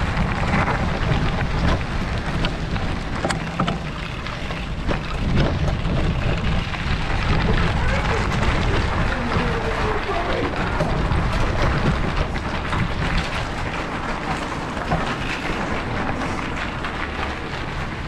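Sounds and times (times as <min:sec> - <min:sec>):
bicycle rolling on trail: 0:00.0 - 0:18.0
clicks and rattles: 0:00.0 - 0:18.0
wind buffeting microphone: 0:00.0 - 0:18.0.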